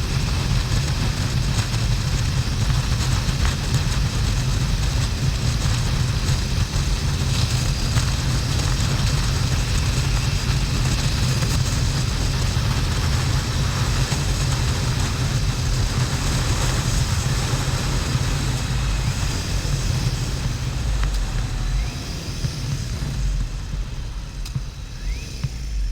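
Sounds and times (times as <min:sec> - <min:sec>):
motorcycle engine cruising: 0:00.0 - 0:25.9
rushing wind: 0:00.0 - 0:25.9.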